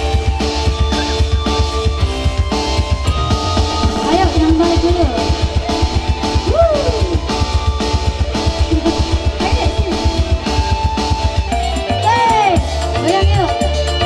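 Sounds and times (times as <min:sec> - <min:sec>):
keyboard music with drum beat: 0:00.0 - 0:14.0.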